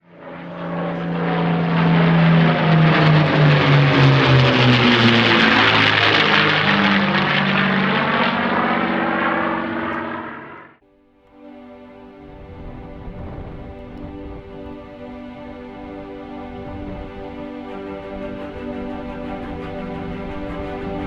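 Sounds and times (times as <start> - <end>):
propeller airplane flying past: 0.0 - 21.0.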